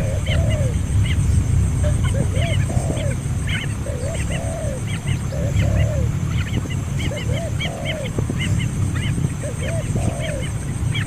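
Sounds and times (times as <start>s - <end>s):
animal calls: 0.0s - 11.0s
low rumble: 0.0s - 11.0s.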